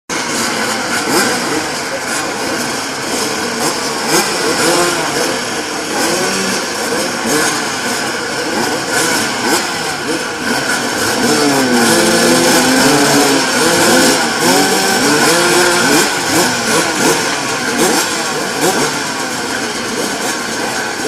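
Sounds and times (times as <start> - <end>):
motocross bikes revving: 0.1 - 21.0.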